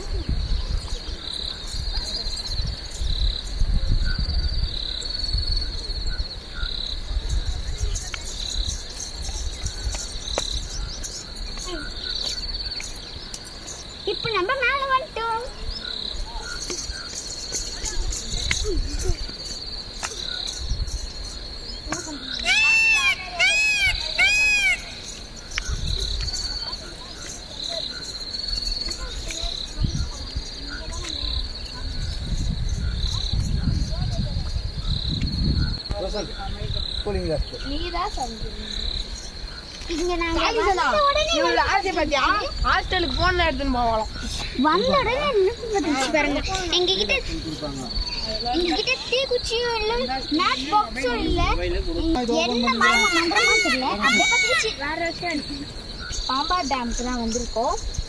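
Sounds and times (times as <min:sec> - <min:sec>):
insects chirping trill: 0:00.0 - 0:58.0.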